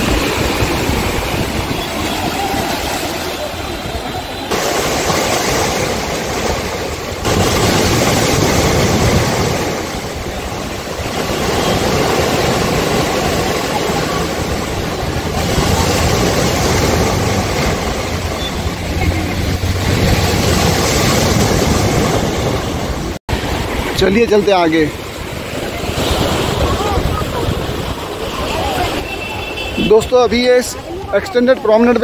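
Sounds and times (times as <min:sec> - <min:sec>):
waves breaking over concrete: 0:00.0 - 0:32.0.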